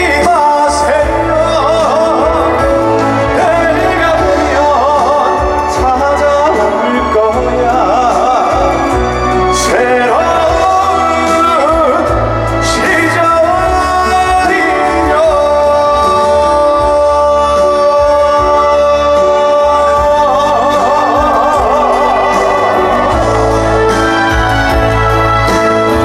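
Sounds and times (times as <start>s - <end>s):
man singing a long note: 0.0s - 24.4s
band playing: 0.0s - 26.0s.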